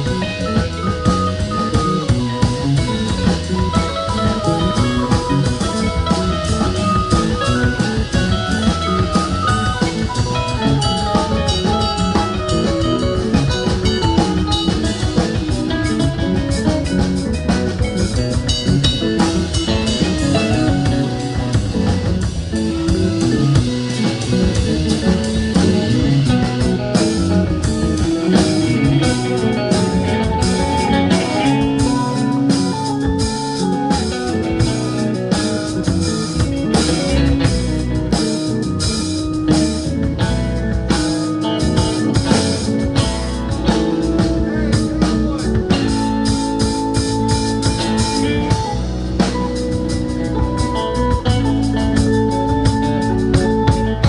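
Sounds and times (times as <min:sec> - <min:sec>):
bass guitar: 0:00.0 - 0:54.0
drum kit hits: 0:00.0 - 0:54.0
electric guitars: 0:00.0 - 0:54.0
keyboard: 0:00.0 - 0:54.0.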